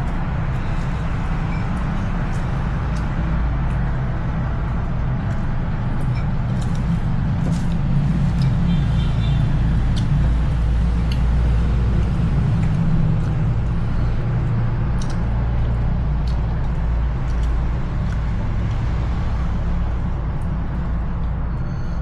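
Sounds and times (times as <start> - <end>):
low rumbling background noise: 0.0 - 22.0.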